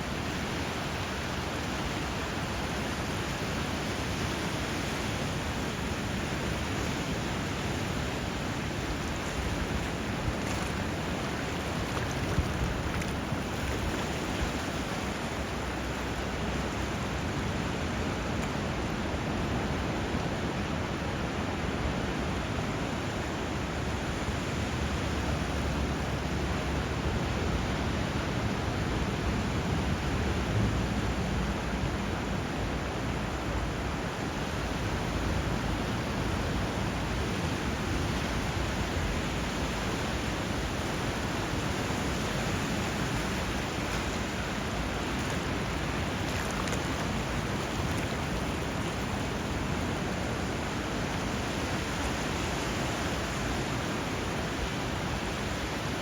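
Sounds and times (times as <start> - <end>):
flowing water and surf: 0.0 - 56.0.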